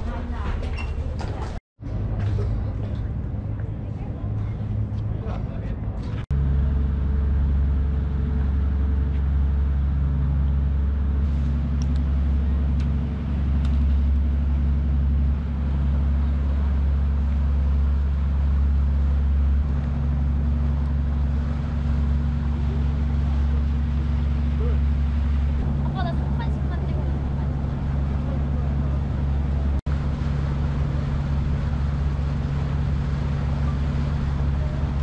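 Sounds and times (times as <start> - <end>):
boat engine droning: 0.0 - 35.0
steady low tones: 1.8 - 35.0.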